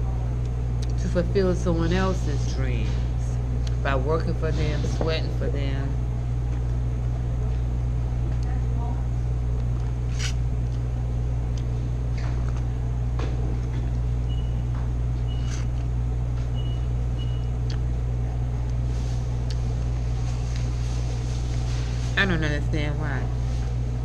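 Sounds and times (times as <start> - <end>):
ventilation humming: 0.0 - 24.0.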